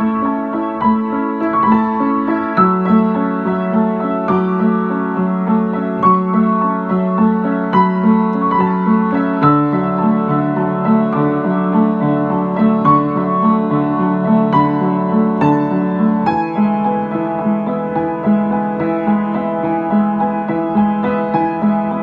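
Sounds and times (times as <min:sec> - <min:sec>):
upright piano playing: 0:00.0 - 0:22.0.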